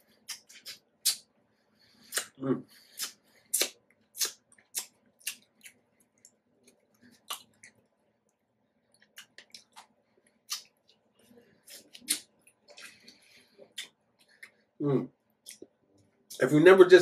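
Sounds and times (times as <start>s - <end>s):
person chewing juicy fruit: 0.1s - 14.7s.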